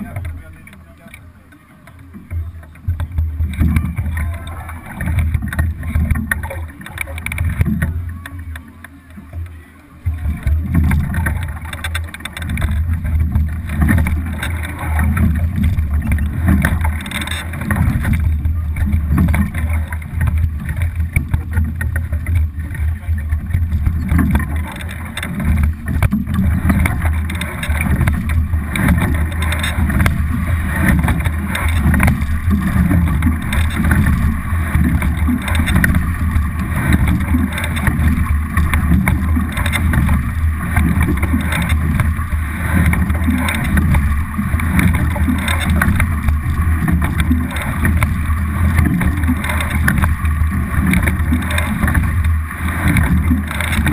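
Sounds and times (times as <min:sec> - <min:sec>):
oars working in riggers: 0:00.0 - 0:53.9
water rushing along hull: 0:00.0 - 0:53.9
wind buffeting microphone: 0:10.1 - 0:53.9.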